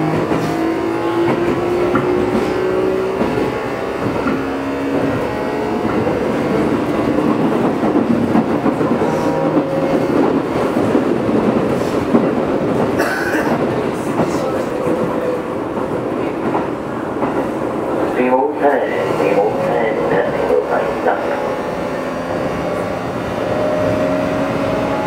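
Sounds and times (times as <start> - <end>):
train wheel and rail noise: 0.0 - 25.0.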